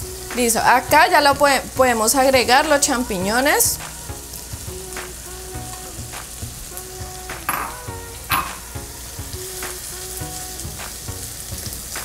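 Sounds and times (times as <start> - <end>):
chicken and mushrooms sizzling: 0.0 - 12.0
soft background music: 0.0 - 12.0.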